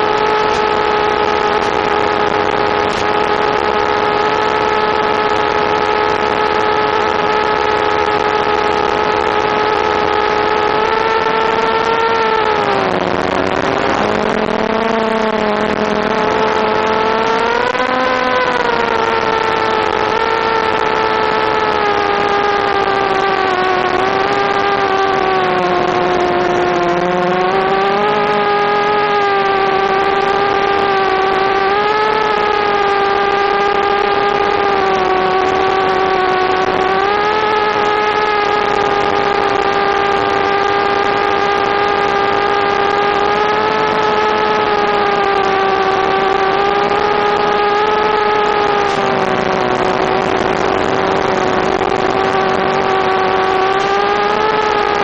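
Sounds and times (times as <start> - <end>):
quadcopter motors whining: 0.0 - 55.0.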